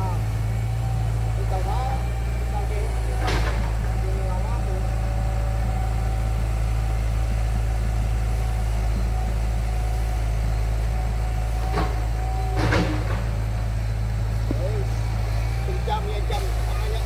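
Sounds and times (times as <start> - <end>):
heavy engine humming: 0.0 - 17.0.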